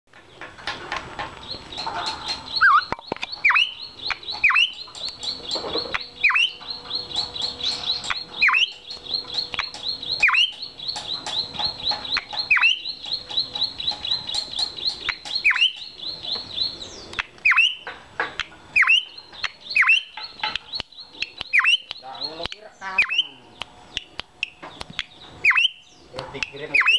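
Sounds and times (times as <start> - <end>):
high bird chirps: 1.4 - 26.9.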